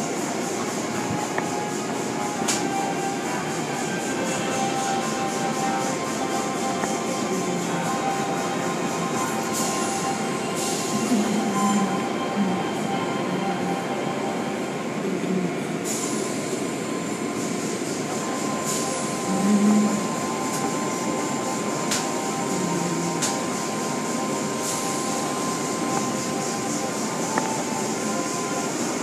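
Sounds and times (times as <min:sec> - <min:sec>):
car wash machinery drone: 0:00.0 - 0:29.0.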